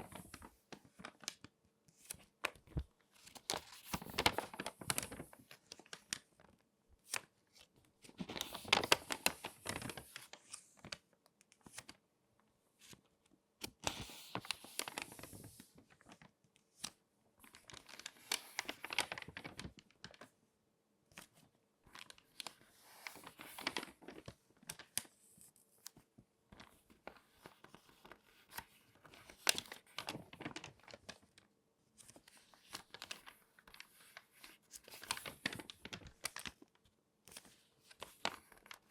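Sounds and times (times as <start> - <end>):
magazine pages crinkling: 0.0 - 11.0, 13.6 - 20.3, 21.2 - 25.2, 26.6 - 38.9.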